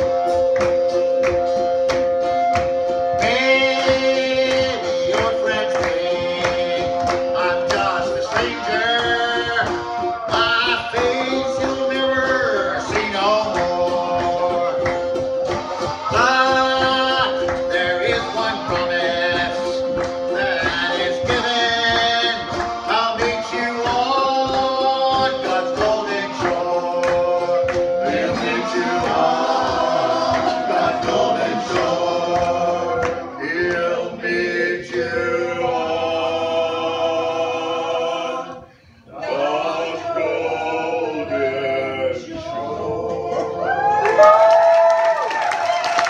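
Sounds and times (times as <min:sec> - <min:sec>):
strummed string accompaniment: 0:00.0 - 0:40.3
men singing in harmony: 0:03.0 - 0:44.0.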